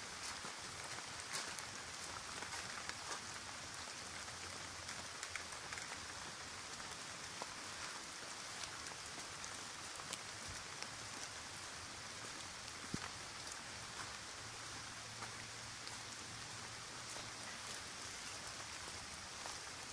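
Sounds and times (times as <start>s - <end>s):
steady rain in forest: 0.0s - 19.9s.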